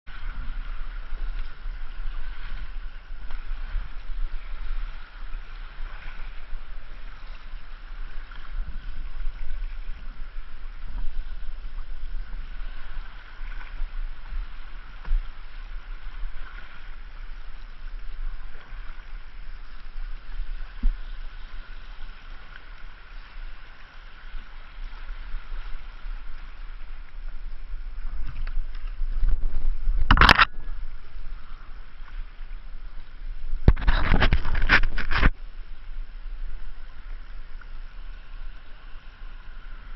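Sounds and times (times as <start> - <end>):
river water splashing: 0.1 - 39.9.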